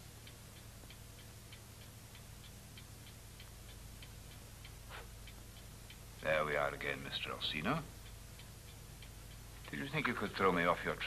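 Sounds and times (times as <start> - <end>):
clock ticking: 0.0 - 11.0
low steady hum: 0.0 - 11.0.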